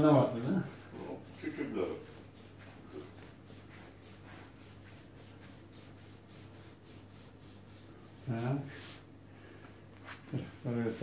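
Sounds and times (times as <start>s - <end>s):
hands rubbing bare foot: 0.0s - 9.1s, 9.9s - 11.0s.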